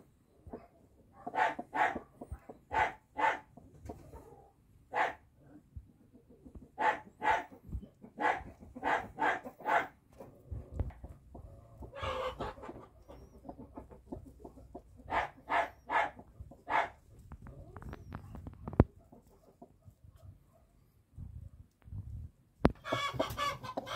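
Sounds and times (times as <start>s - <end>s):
hen clucking: 0.2s - 19.9s, 22.7s - 23.9s.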